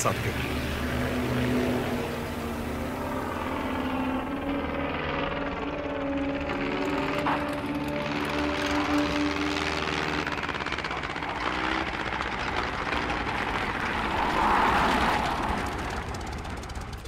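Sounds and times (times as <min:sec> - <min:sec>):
propeller plane engine: 0:00.0 - 0:17.0.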